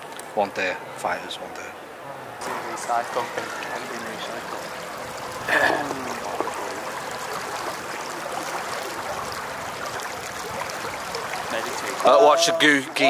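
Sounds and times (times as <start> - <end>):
water rushing along a boat hull: 2.2 - 13.0.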